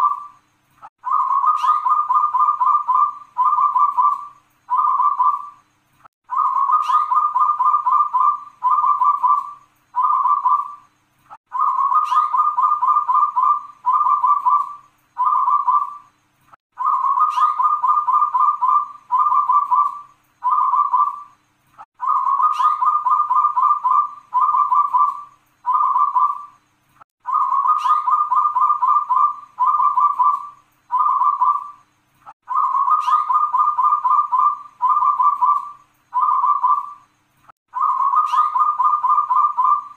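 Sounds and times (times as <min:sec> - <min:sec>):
dove cooing: 0:00.0 - 0:00.4, 0:01.0 - 0:05.6, 0:06.3 - 0:10.8, 0:11.5 - 0:16.0, 0:16.8 - 0:21.3, 0:22.0 - 0:26.5, 0:27.2 - 0:31.8, 0:32.4 - 0:37.0, 0:37.7 - 0:39.9.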